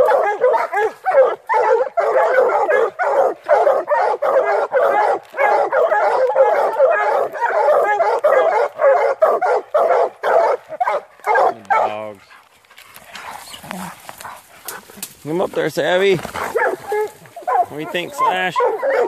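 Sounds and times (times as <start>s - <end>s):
hounds barking: 0.0s - 19.0s.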